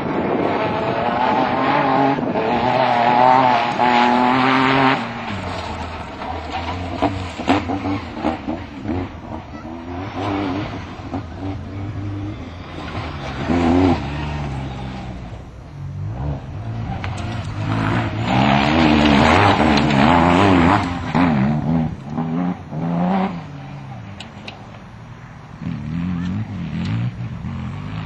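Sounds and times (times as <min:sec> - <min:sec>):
car engine revving hard: 0:00.0 - 0:24.1.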